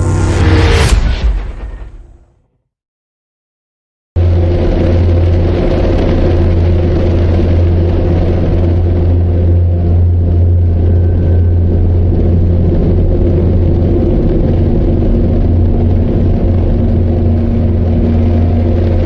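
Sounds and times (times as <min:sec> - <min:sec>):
deep cinematic rumble: 0:00.0 - 0:02.4, 0:04.2 - 0:19.0.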